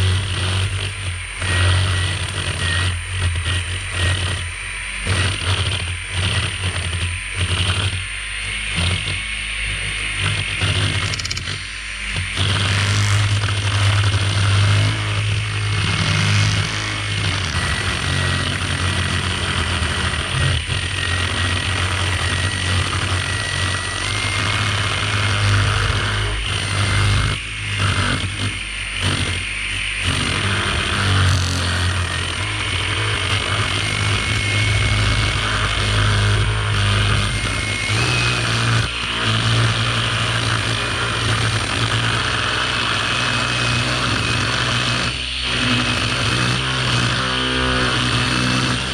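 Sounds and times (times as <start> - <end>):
string trimmer cutting grass: 0.0 - 48.9.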